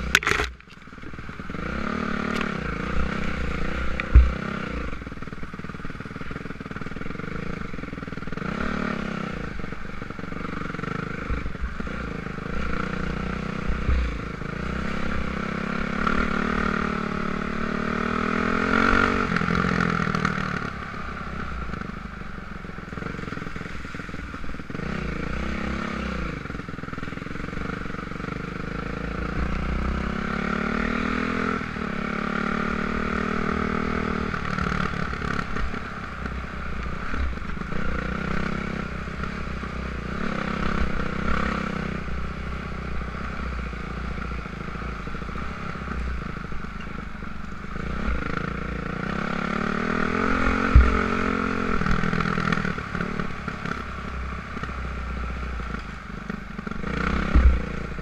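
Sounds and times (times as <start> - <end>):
dirt bike engine revving: 1.5 - 5.8, 6.7 - 22.0, 22.9 - 46.3, 47.6 - 58.0.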